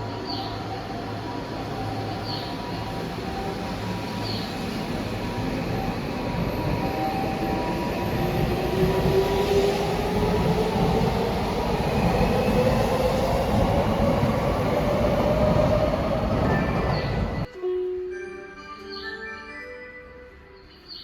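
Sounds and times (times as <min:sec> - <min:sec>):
wheels rumbling on rail: 0:00.0 - 0:17.5.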